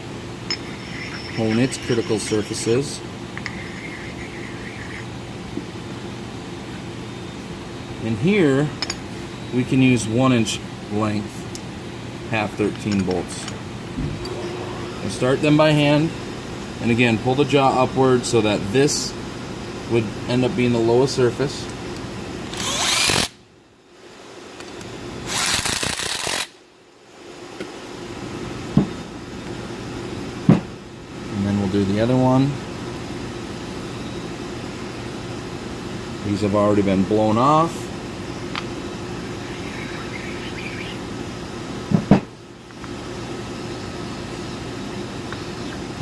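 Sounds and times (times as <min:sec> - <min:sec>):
machine shop hum: 0:00.0 - 0:23.1, 0:32.1 - 0:46.0.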